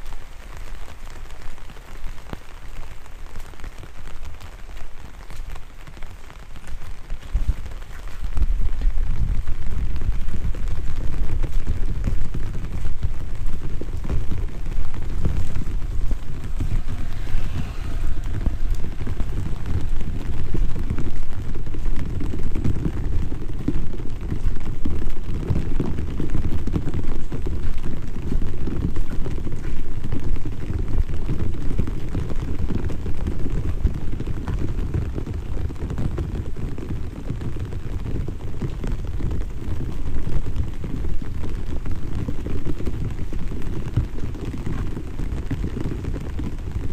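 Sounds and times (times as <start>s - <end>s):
light rain pattering: 0.0s - 46.9s.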